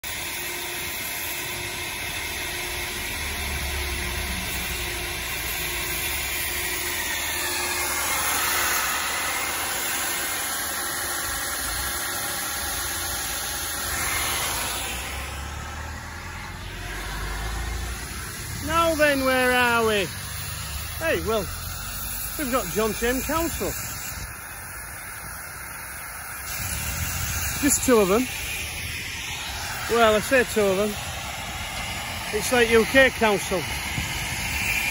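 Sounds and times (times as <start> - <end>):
concrete grinder running: 0.0 - 34.9.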